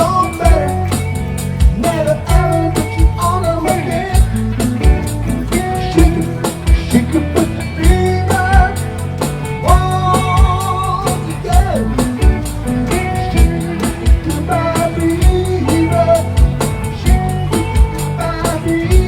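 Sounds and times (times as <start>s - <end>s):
drum beat: 0.0s - 19.0s
live band playing: 0.0s - 19.0s.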